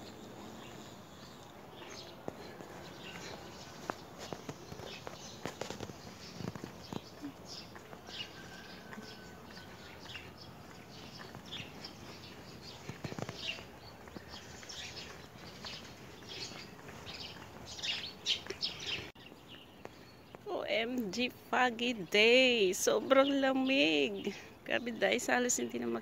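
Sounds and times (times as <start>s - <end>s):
faint outdoor hiss: 0.0s - 26.0s
small birds chirping: 0.0s - 26.0s.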